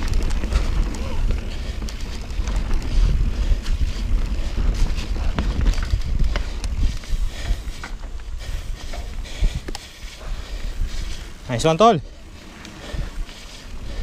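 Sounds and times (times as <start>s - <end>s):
bike clicks and rattles: 0.0s - 14.0s
tyres on dirt: 0.0s - 14.0s
wind buffeting microphone: 0.0s - 14.0s.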